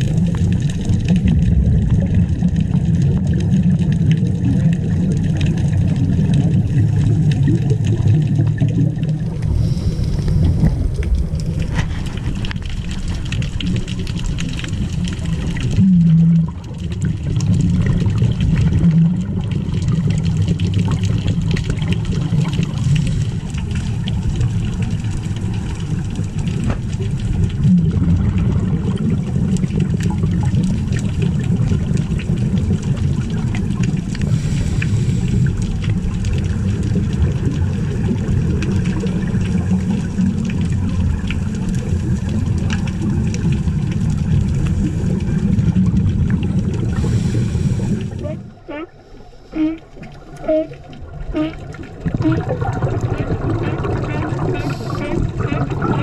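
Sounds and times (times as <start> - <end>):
faint water bubbles: 0.0 - 56.0
muffled underwater rumble: 0.0 - 56.0.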